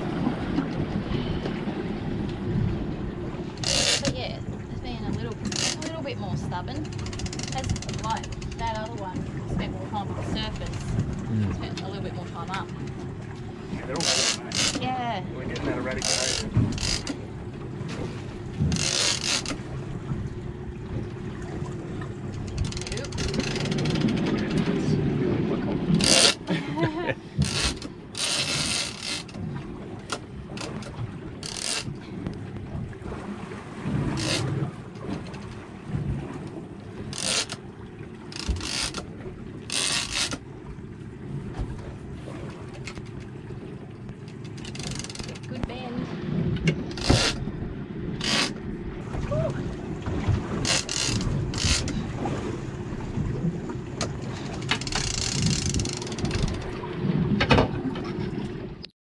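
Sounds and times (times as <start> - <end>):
low steady hum: 0.0 - 58.9
sea water washing about boat: 0.0 - 58.9.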